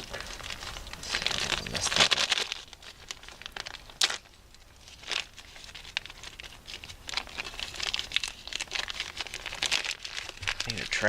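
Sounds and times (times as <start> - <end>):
hands rustling and crinkling: 0.0 - 11.0.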